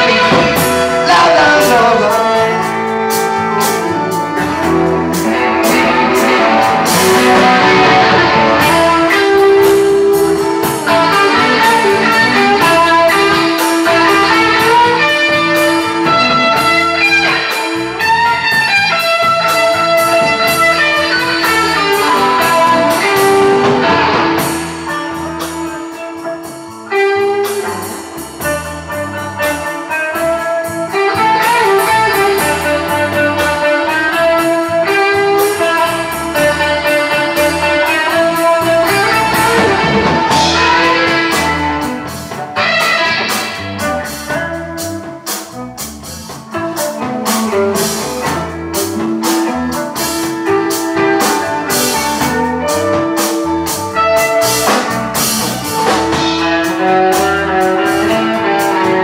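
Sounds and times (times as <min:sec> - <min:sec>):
electric guitar lead: 0:00.0 - 0:59.0
rock band instrumental: 0:00.0 - 0:59.0.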